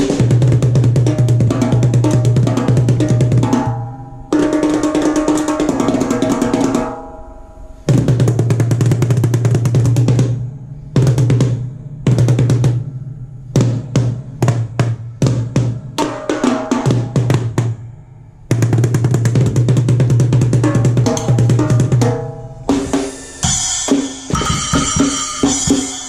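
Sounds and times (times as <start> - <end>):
drum rolls and fills: 0.0 - 7.0, 7.8 - 12.8, 13.5 - 17.9, 18.5 - 26.0.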